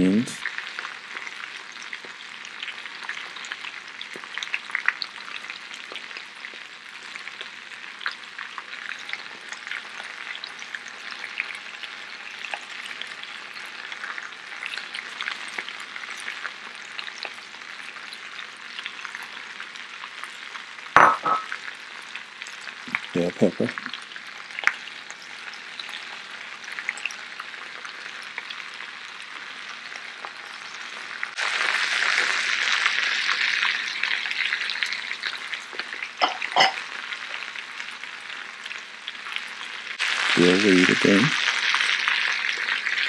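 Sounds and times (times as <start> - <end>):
potatoes sizzling in skillets: 0.0 - 43.0.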